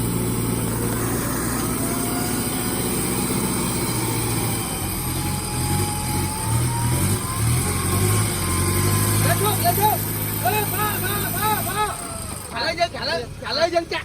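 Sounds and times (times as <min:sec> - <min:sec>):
off-road vehicle engine running: 0:00.0 - 0:14.0.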